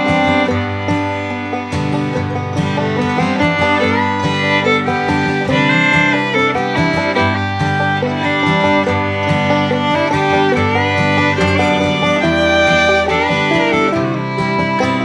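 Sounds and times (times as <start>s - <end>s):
bluegrass music with fiddle: 0.0s - 15.0s.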